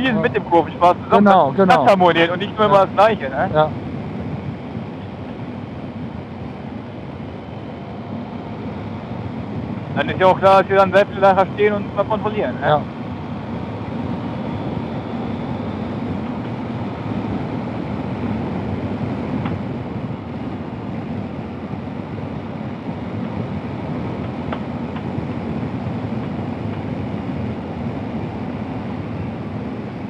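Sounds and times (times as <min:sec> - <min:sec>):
motorcycle engine drone: 0:00.0 - 0:30.0
wind rush on microphone: 0:00.0 - 0:30.0.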